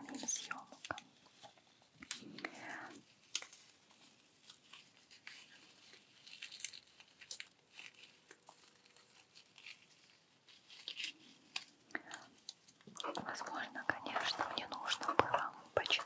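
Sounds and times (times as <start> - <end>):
plastic packaging crinkling: 0.1 - 16.0.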